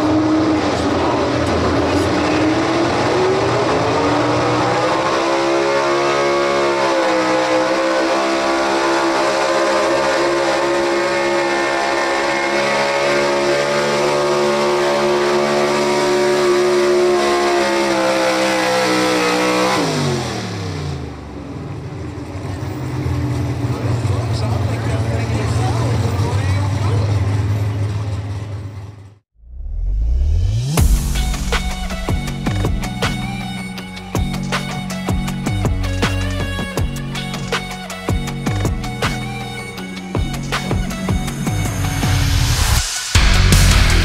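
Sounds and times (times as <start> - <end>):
truck engine at full throttle: 0.0 - 29.2, 29.8 - 44.0.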